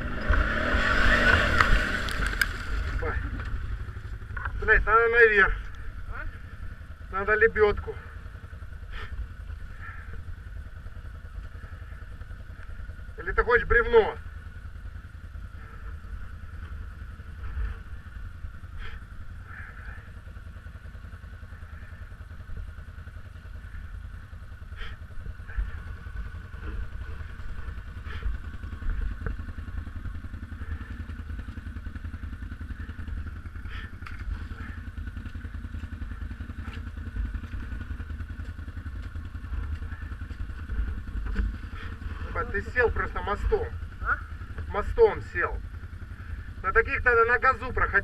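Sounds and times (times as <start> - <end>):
off-road vehicle engine running: 0.0 - 48.0.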